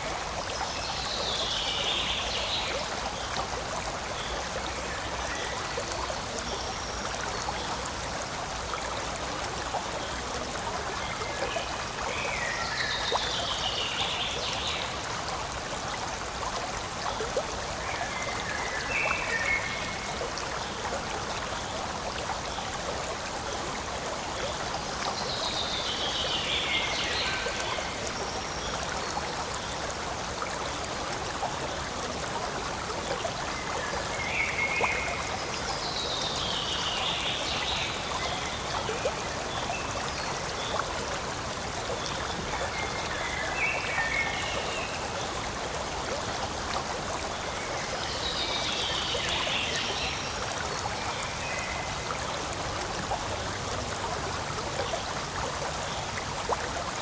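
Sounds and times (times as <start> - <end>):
stream running and trickling: 0.0 - 57.0.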